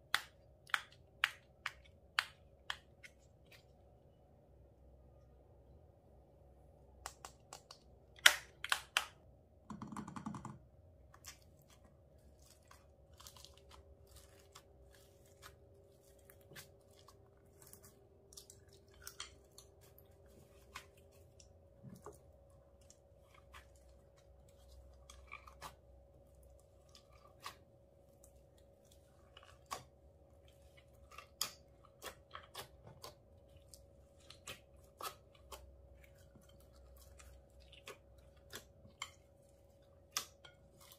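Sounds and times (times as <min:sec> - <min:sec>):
slime kneaded by hand: 0:06.8 - 0:40.9.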